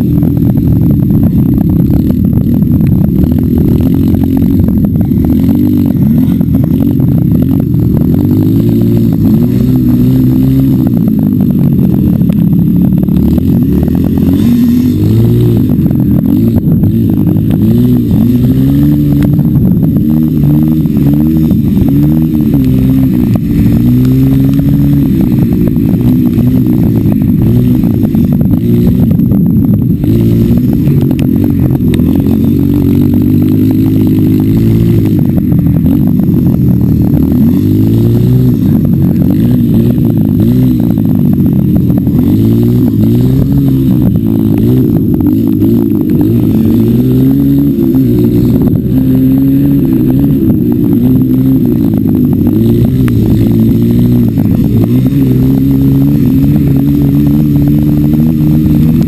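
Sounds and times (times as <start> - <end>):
off-road vehicle engine revving: 0.0 - 59.0
rattling over rough ground: 0.0 - 59.0.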